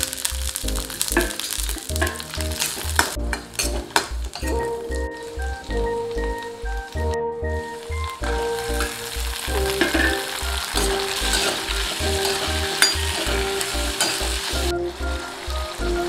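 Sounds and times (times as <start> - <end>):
tomatoes sizzling in hot oil: 0.0 - 7.0, 7.8 - 16.0
background music with beat: 0.0 - 16.0.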